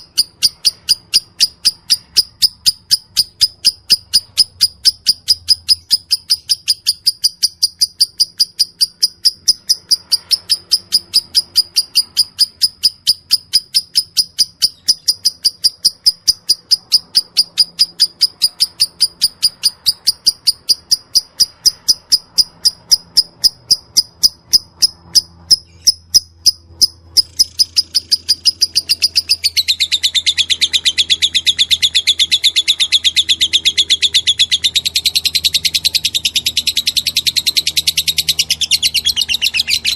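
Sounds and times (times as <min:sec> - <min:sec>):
lovebird chirping: 0:00.0 - 0:39.9.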